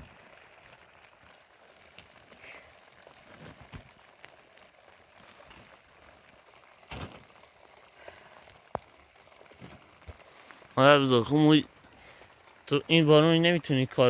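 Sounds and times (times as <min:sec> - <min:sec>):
light rain with drips: 0:00.0 - 0:14.0.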